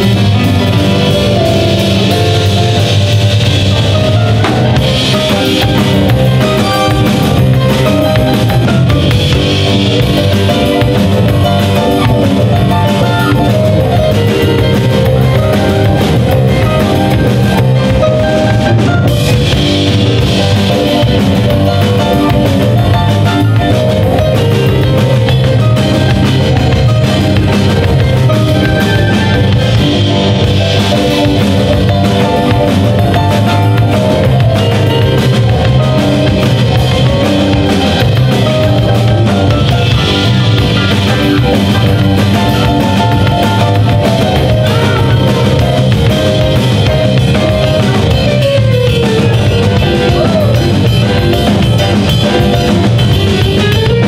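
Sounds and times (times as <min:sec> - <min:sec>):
bass guitar: 0:00.0 - 0:54.0
drum kit: 0:00.0 - 0:54.0
electric guitar: 0:00.0 - 0:54.0
stage piano: 0:00.0 - 0:54.0.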